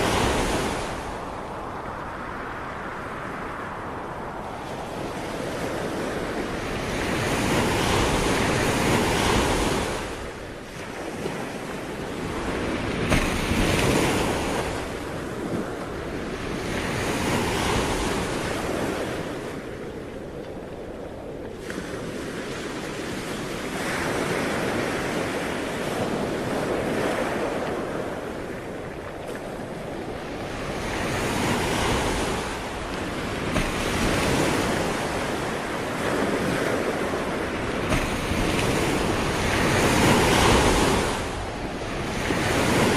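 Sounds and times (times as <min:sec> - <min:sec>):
ocean waves breaking on shore: 0:00.0 - 0:42.9
wind on microphone: 0:00.0 - 0:42.9.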